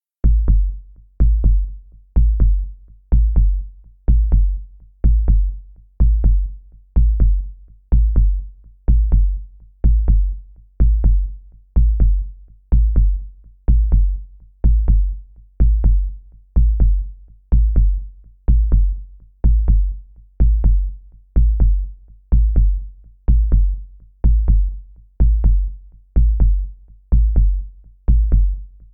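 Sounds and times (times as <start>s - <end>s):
heartbeat thumping: 0.2s - 28.9s.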